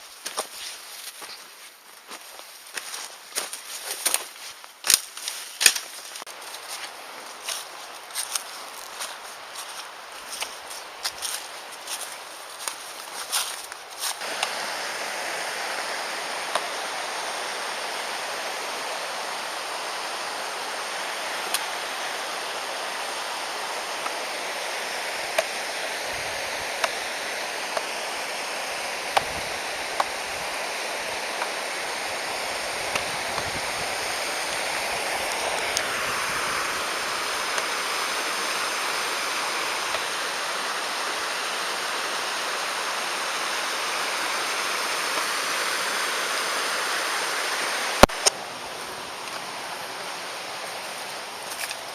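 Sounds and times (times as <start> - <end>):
mountain stream rushing: 5.6 - 51.9.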